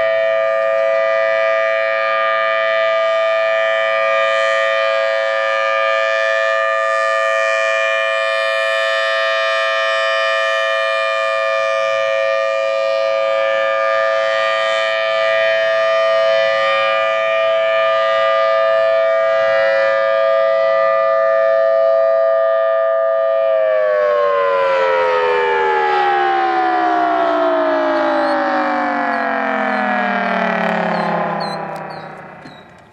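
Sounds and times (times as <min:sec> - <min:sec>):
tornado siren: 0:00.0 - 0:32.9.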